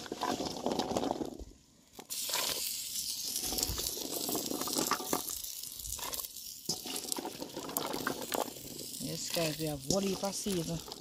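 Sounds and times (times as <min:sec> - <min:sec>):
wood fire crackling: 0:00.0 - 0:11.0
steady hiss: 0:01.7 - 0:11.0.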